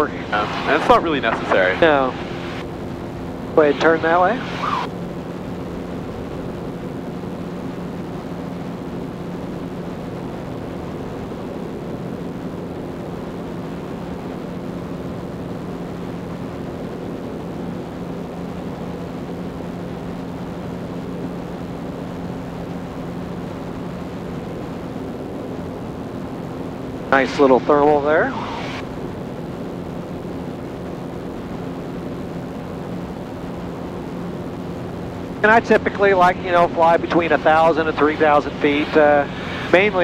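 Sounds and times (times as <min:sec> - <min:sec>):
light aircraft engine droning: 0:00.0 - 0:40.0.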